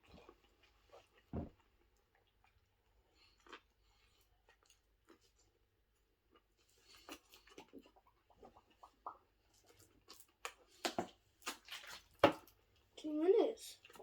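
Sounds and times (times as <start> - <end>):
wet chewing sounds: 0.0 - 12.9.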